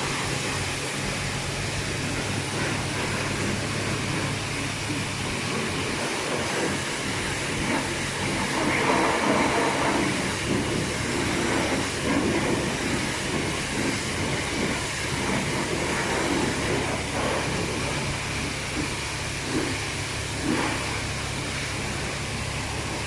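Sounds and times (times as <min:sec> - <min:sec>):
muffled water spray on car: 0:00.0 - 0:23.0.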